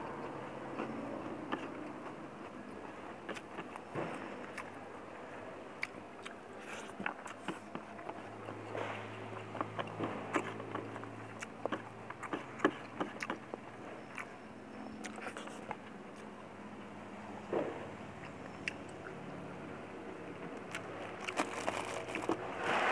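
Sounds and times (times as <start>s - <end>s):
crunchy chewing: 0.0s - 16.4s, 18.1s - 19.5s, 20.4s - 22.9s.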